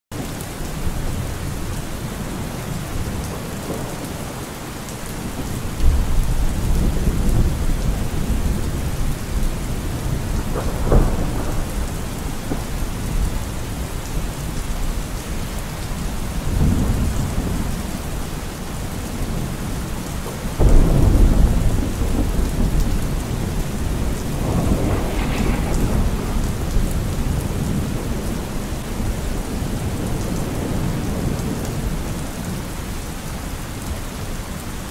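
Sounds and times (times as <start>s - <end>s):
steady rain: 0.1s - 34.9s
thunder rumbling: 0.8s - 32.7s.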